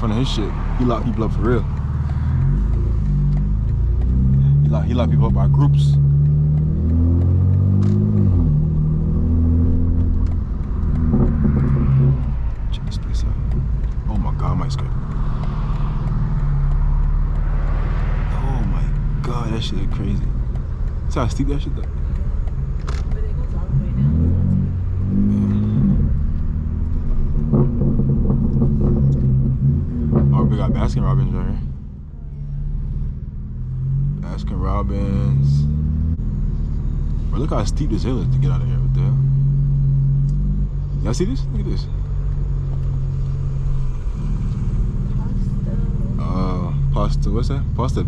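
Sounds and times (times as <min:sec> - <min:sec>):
car exhaust at steady low pitch: 0:00.0 - 0:48.0.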